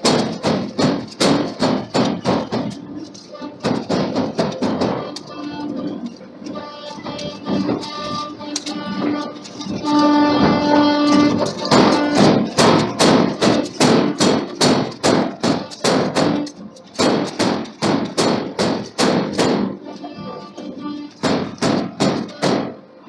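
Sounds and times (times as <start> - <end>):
hammer striking steel: 0.0 - 22.8
plucked guitar music: 0.0 - 23.0.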